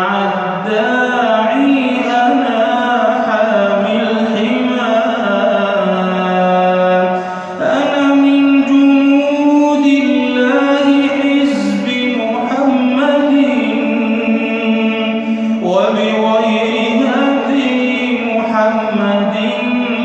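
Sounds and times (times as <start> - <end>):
male voices singing wordless: 0.0 - 20.0.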